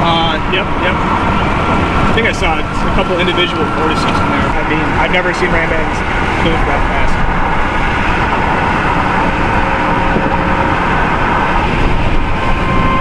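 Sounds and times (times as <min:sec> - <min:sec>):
wind and tyre noise rushing: 0:00.0 - 0:13.0.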